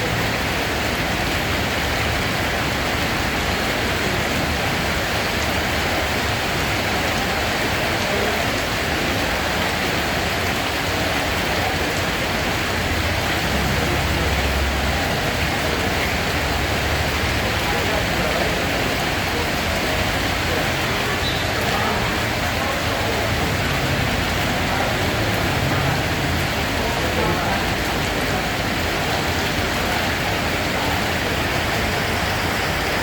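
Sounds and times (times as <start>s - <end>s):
dense rain falling on surfaces: 0.0s - 33.0s.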